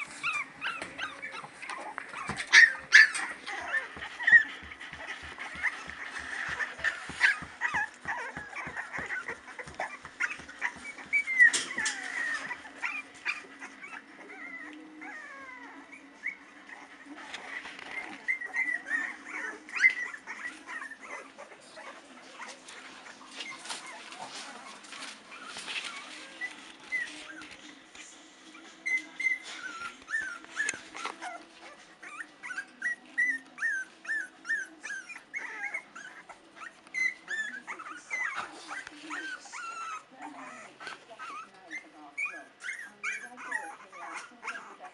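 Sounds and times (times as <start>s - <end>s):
puppies whimpering and squeaking: 0.0s - 44.9s.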